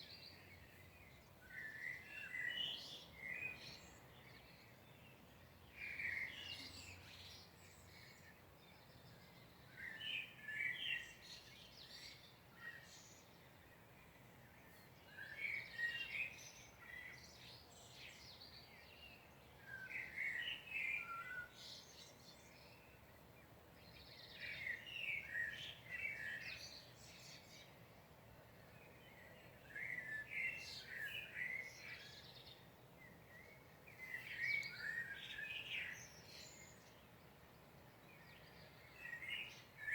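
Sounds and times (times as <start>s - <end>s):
faint steady hiss: 0.0s - 39.9s
songbird singing: 0.0s - 39.9s.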